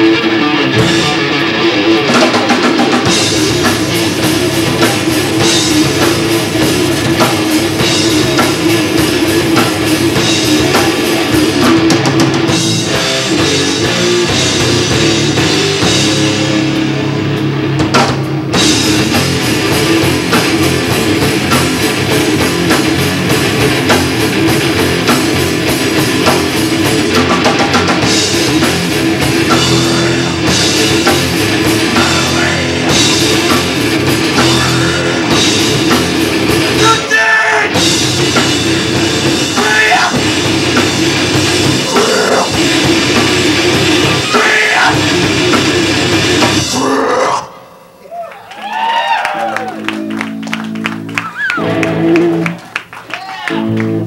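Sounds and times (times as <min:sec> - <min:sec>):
heavy rock band playing live: 0:00.0 - 0:54.0.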